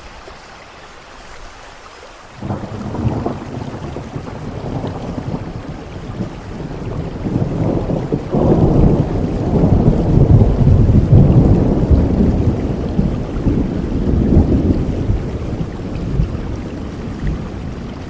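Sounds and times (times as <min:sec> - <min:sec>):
steady rain: 0:00.0 - 0:18.0
thunder rumbling: 0:02.4 - 0:18.0.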